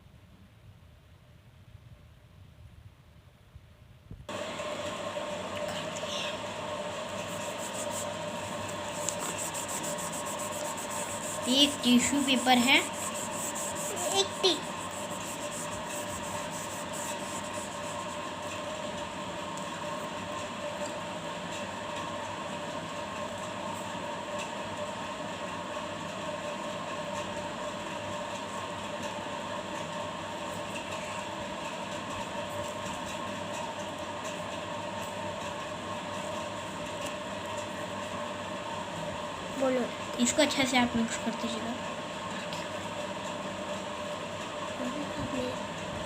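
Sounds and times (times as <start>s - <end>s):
mechanical hum and whir: 0.0s - 46.0s.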